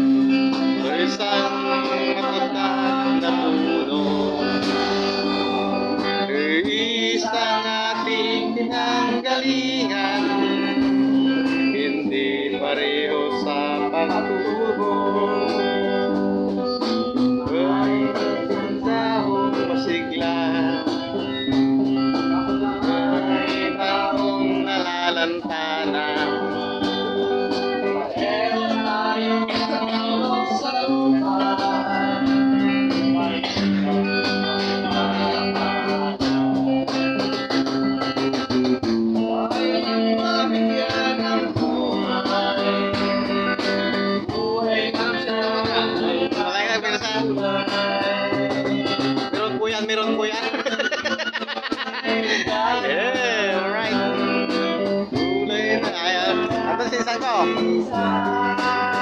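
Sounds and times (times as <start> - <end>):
man singing into a microphone: 0.0 - 37.3, 39.1 - 59.0
acoustic guitar playing: 0.0 - 59.0.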